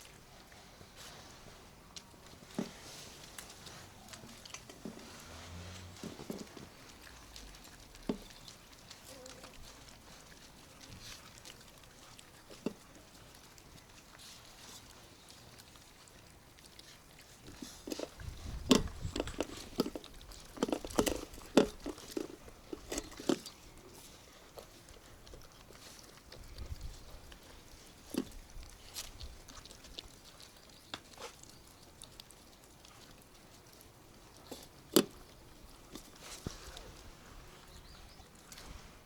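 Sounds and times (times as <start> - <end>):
puppies chomping food: 0.0 - 39.0.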